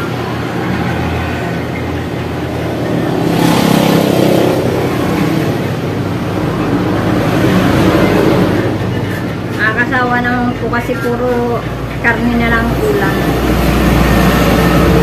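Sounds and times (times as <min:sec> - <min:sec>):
passing traffic: 0:00.0 - 0:15.0
vehicle engine humming: 0:00.0 - 0:15.0.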